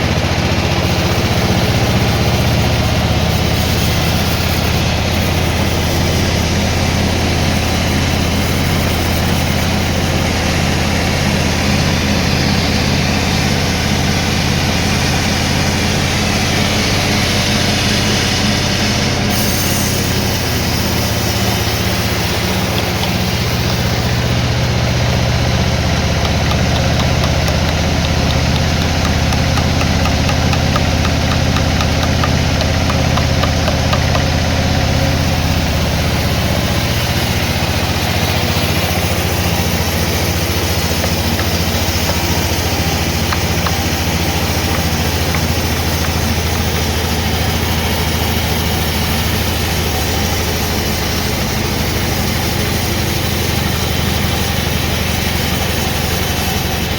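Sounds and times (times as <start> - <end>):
engine running steadily: 0.0 - 56.9.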